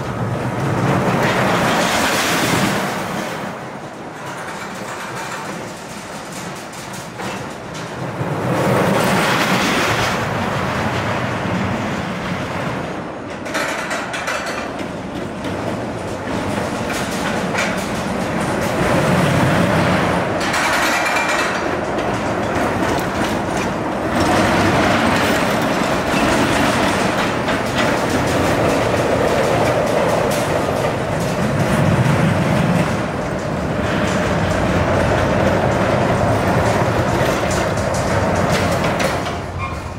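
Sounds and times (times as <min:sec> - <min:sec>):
roller coaster train rumbling: 0:00.0 - 0:39.9.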